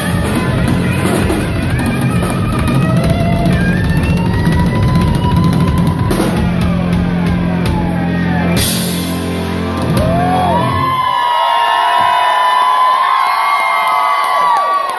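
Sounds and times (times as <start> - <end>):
rock band playing: 0.0 - 12.3
crowd cheering: 0.0 - 14.9.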